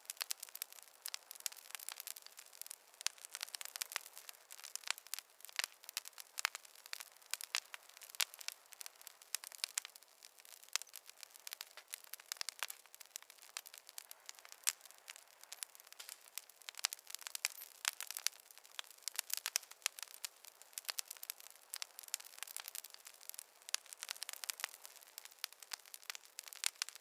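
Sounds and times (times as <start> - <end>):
faint hiss: 0.0 - 27.0
wood fire crackling: 0.0 - 27.0.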